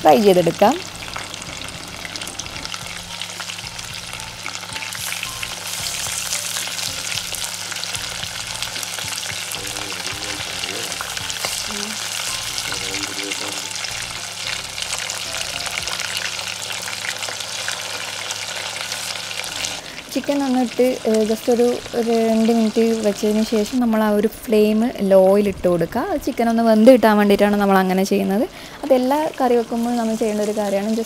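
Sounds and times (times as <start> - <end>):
chicken sizzling in hot oil: 0.0 - 24.3, 28.6 - 31.0.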